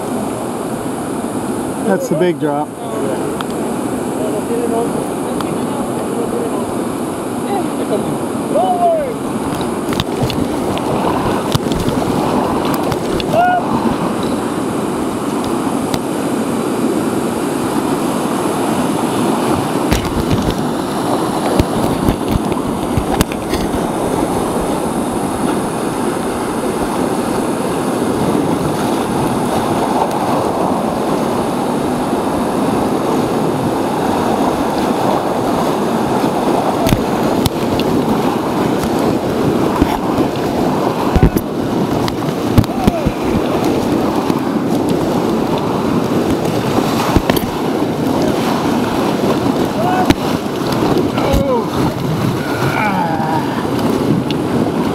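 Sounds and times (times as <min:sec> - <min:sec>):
whitewater rapids rushing: 0:00.0 - 0:54.9
knocks and splashes against raft: 0:08.6 - 0:54.9.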